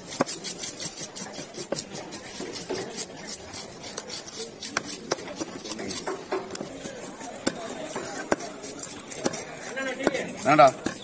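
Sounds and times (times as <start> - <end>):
knife scraping fish: 0.0 - 11.0.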